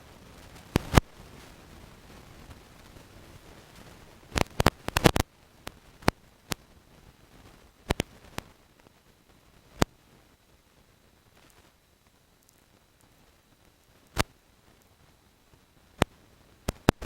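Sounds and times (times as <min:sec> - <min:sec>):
audio pops and crackles: 0:00.0 - 0:17.0
low hiss: 0:00.0 - 0:17.0.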